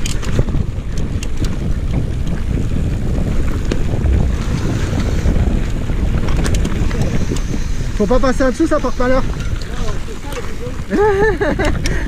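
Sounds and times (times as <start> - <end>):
bike rattling over ground: 0.0 - 11.8
tyres rumbling on dirt: 0.0 - 11.9
wind buffeting microphone: 0.0 - 12.0.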